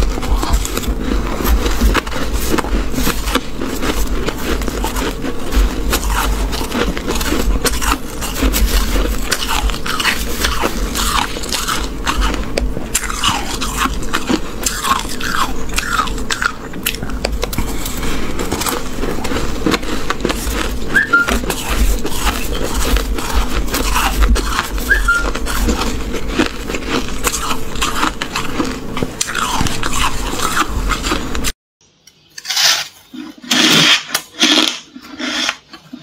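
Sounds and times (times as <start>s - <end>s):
chewing crunchy frost: 0.0s - 31.6s, 32.4s - 36.0s.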